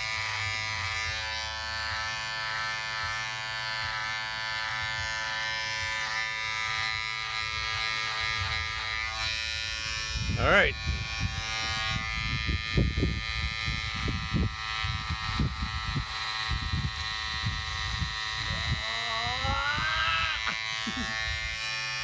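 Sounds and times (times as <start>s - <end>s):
crackling of blades cutting hair: 0.0s - 22.0s
electric hair clipper buzzing: 0.0s - 22.0s.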